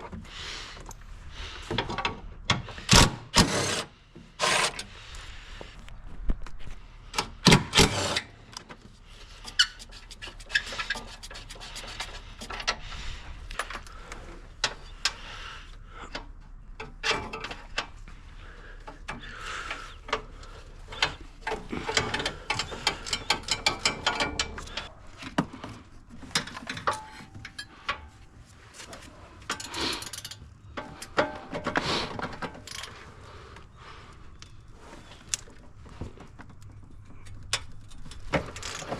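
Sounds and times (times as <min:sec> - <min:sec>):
hand tools clicking and scraping: 0:01.6 - 0:05.0, 0:07.1 - 0:38.9.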